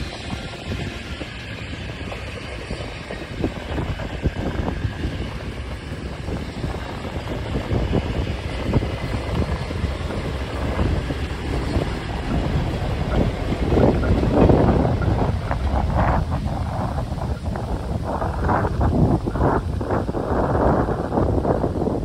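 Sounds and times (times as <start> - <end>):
wheels clacking over rail joints: 0.0 - 20.6
diesel locomotive: 0.0 - 22.0
train wheels rumbling on rail: 0.0 - 22.0
wind buffeting microphone: 0.0 - 22.0.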